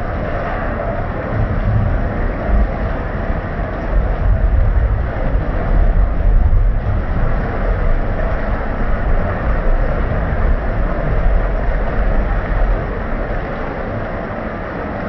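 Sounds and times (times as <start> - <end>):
rain falling: 0.0 - 15.0
unsteady low rumble: 0.0 - 15.0.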